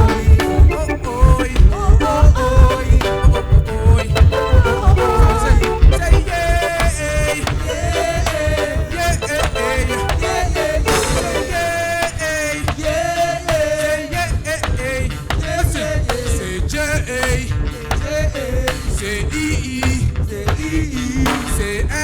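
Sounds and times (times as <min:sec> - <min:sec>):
live reggae band playing: 0:00.0 - 0:21.6.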